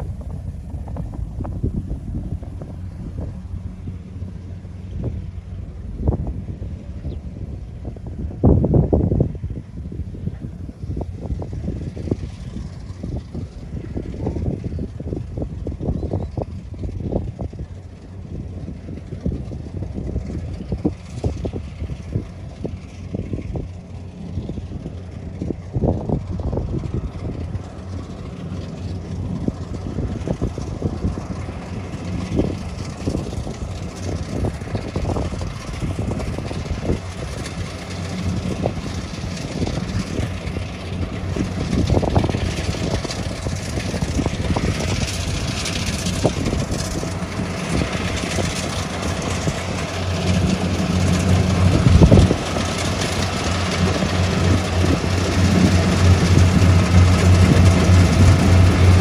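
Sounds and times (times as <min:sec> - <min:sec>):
harvester engine running: 0:00.0 - 0:59.0.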